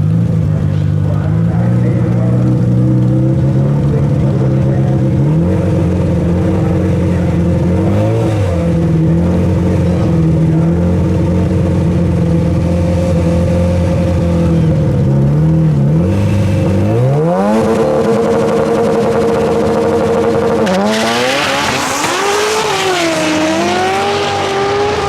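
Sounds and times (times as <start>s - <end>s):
car engine running and revving: 0.0s - 25.0s.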